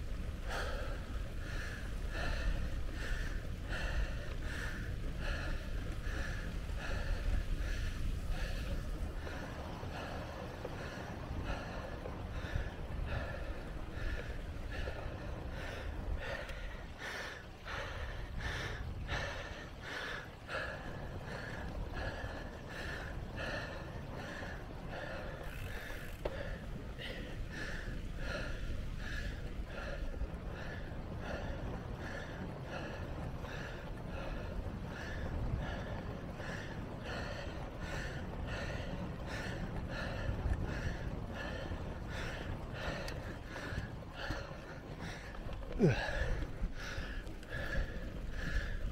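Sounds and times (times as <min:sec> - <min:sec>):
cyclist breathing hard: 0:00.0 - 0:48.9
wind rumble on microphone: 0:00.0 - 0:48.9.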